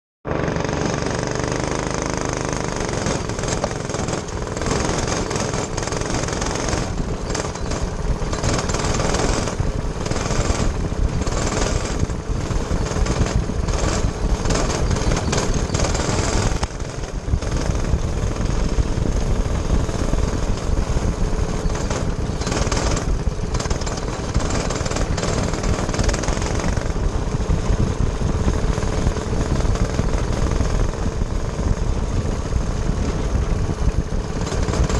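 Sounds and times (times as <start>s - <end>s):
kart engine running hard: 0.3s - 34.9s.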